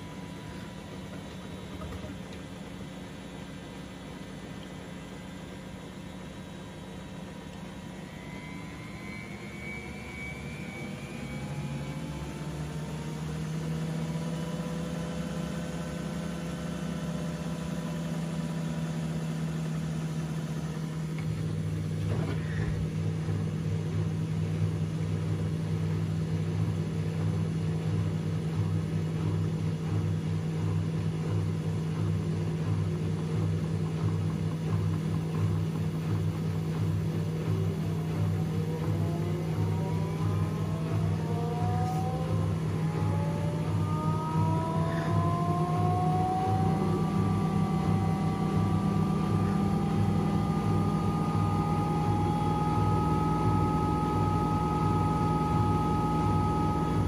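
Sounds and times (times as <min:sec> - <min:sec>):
washing machine motor whine: 0:00.0 - 0:57.0
low pulsing drone: 0:05.4 - 0:57.0.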